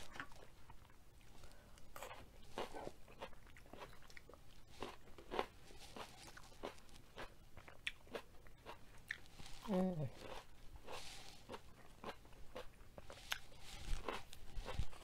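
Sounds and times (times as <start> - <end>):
crunching and chewing crisp food: 0.0 - 15.0.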